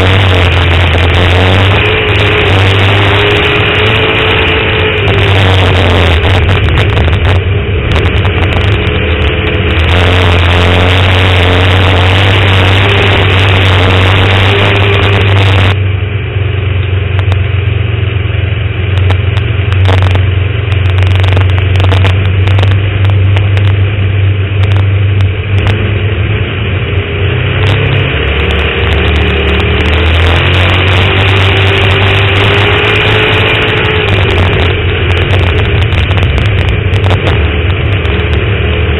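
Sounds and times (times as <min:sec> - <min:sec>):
race car engine revving: 0:00.0 - 0:15.9, 0:16.5 - 0:38.9.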